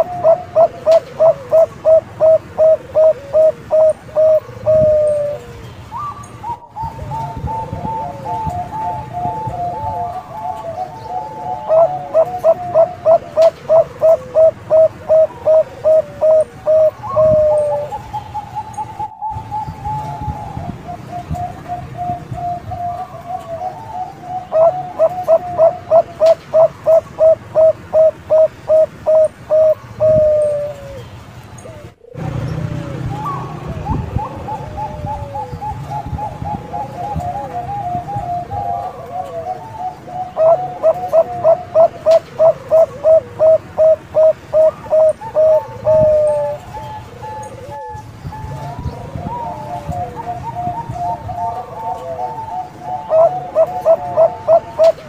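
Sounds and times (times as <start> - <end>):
dove singing trills and coos: 0.0 - 55.0.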